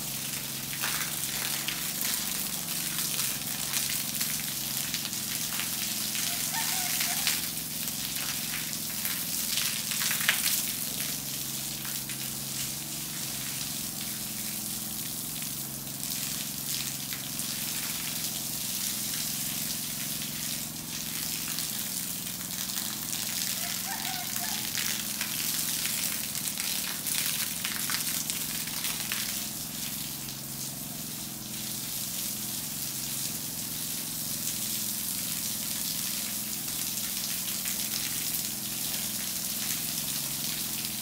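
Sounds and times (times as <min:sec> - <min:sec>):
water splashing on concrete floor: 0:00.0 - 0:41.0.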